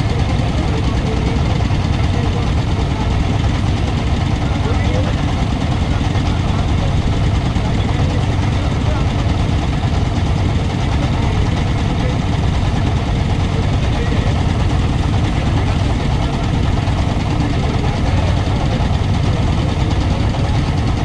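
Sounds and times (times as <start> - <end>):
ship engine droning: 0.0 - 21.0.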